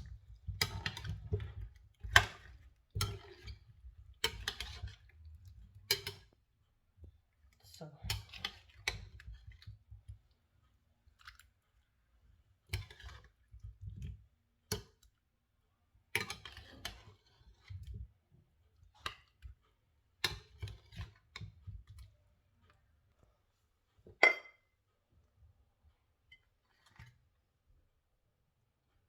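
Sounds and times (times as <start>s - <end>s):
food being mixed: 0.0s - 23.6s.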